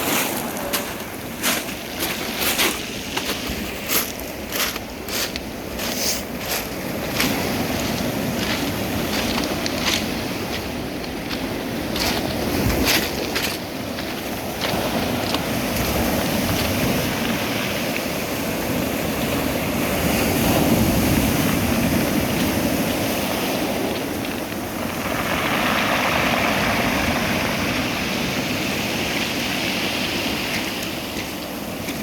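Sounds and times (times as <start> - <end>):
sea waves washing in: 0.0 - 32.0.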